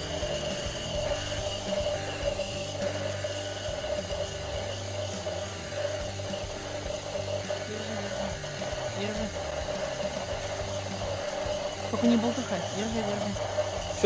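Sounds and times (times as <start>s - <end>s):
aerosol can hissing: 0.0s - 14.0s.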